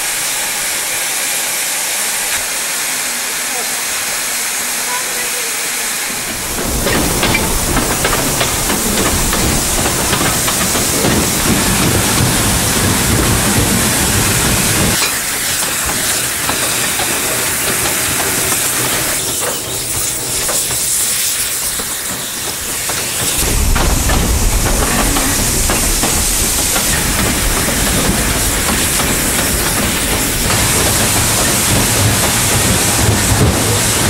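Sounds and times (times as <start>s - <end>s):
steam hissing: 0.0s - 34.0s
train rumbling on track: 0.0s - 34.0s.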